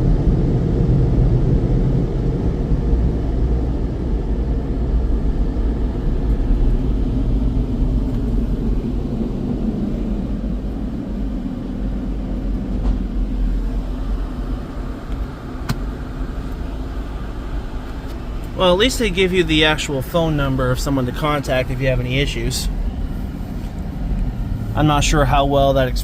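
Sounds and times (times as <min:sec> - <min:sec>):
car driving slowly: 0:00.0 - 0:26.0.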